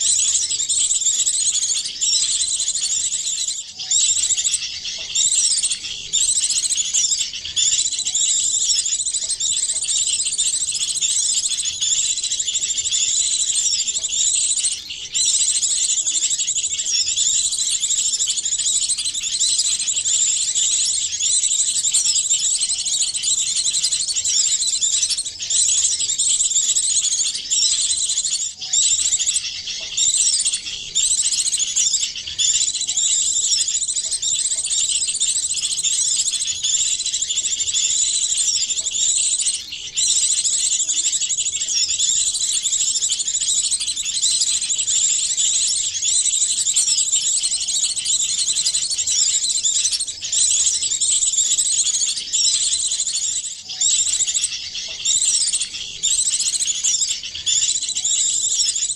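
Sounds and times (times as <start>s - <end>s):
songbirds chirping and twittering: 0.0s - 58.9s.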